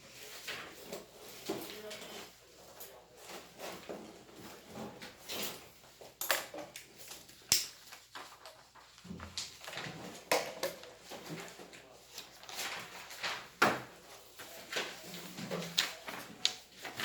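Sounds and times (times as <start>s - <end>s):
objects handled and moved: 0.0s - 17.0s.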